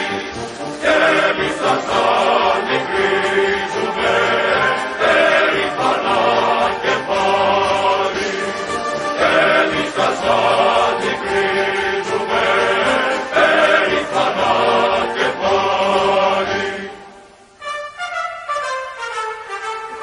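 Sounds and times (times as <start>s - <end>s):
choir singing sustained chords: 0.0s - 18.3s.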